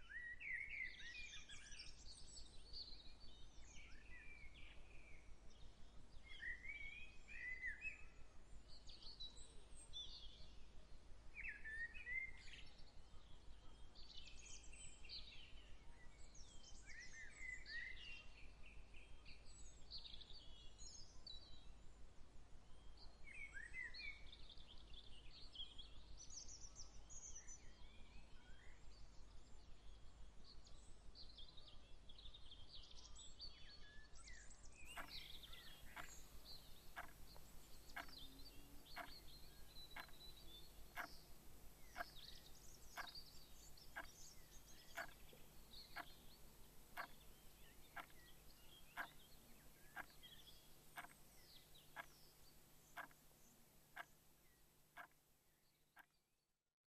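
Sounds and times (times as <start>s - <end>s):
birdsong chirps: 0.0s - 56.6s.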